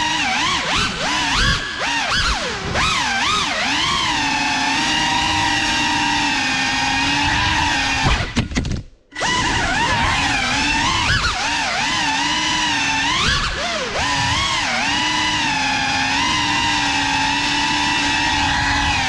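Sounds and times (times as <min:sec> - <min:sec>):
drone motors whining: 0:00.0 - 0:08.4, 0:09.1 - 0:19.0.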